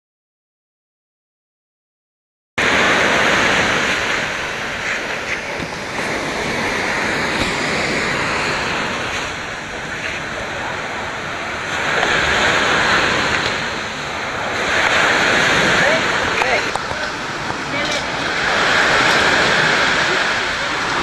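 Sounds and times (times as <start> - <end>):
sea surf rushing: 2.6 - 21.0
wind on microphone: 2.6 - 21.0.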